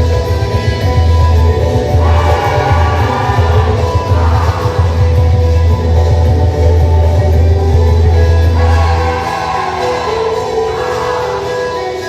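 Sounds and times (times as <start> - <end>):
loud music with heavy bass: 1.5 - 7.5, 8.2 - 12.0.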